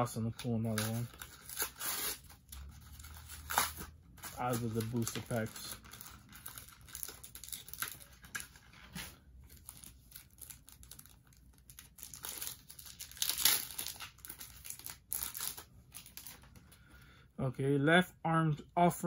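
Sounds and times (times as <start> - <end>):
foil wrapper crinkling and tearing: 0.3 - 16.6.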